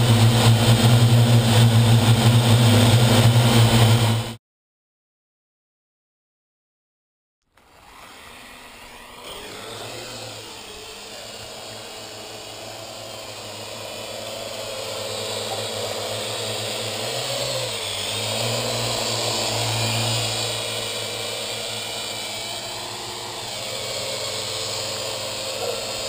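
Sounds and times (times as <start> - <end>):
drone propellers whirring: 0.0 - 4.4, 7.6 - 26.0.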